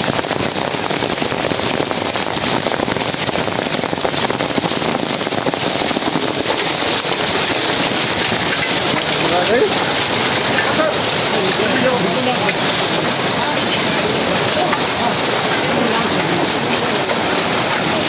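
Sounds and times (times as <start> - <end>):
hail pelting hard surfaces: 0.0 - 18.0.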